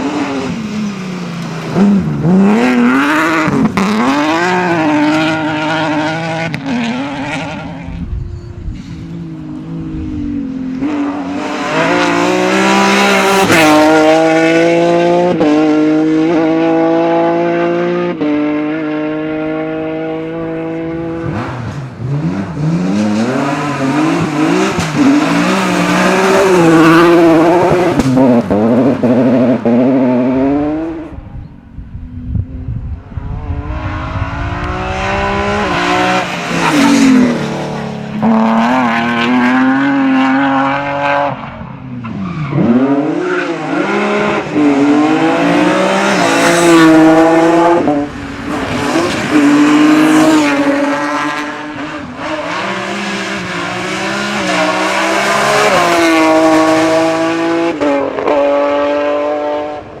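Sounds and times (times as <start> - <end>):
rally car engine accelerating: 0.0 - 31.3, 33.1 - 60.0.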